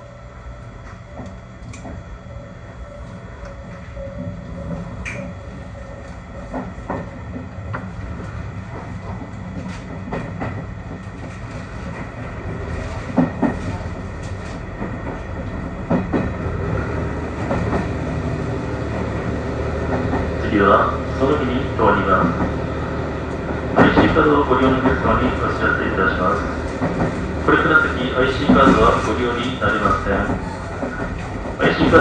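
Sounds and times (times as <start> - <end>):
diesel railcar running: 0.0 - 32.0.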